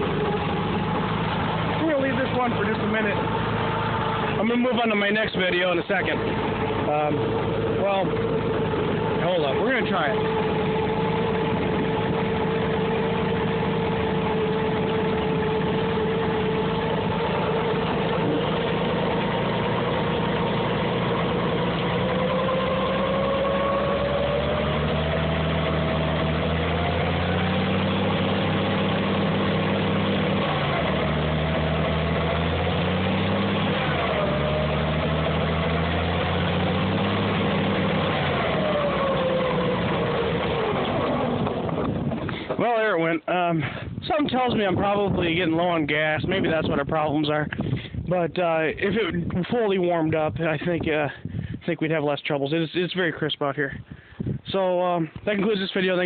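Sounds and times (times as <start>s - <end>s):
tractor engine running unevenly: 0.0s - 51.8s.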